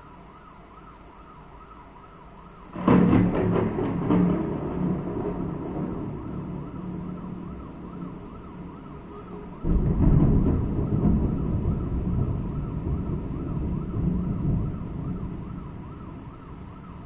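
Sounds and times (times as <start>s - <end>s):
faint siren: 0.0s - 17.0s
thunderclap and rumble: 2.5s - 17.0s.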